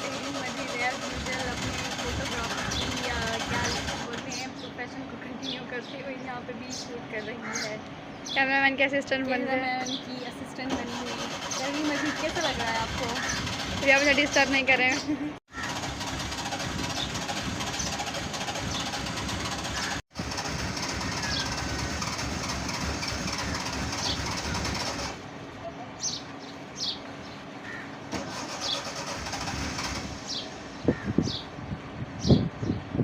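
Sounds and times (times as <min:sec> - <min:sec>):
car engine running: 0:00.0 - 0:05.9, 0:09.3 - 0:31.5
birds chirping: 0:00.1 - 0:20.0, 0:20.8 - 0:32.9.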